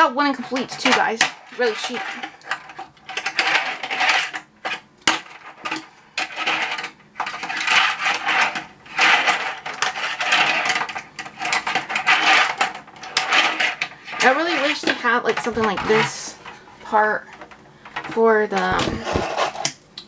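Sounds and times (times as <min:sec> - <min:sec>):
fingerboard wheels rolling on plastic: 0:00.0 - 0:19.7.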